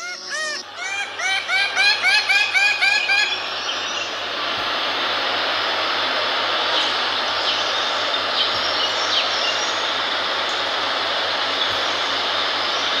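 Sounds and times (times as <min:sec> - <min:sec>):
forest ambience hiss: 0:00.0 - 0:13.0.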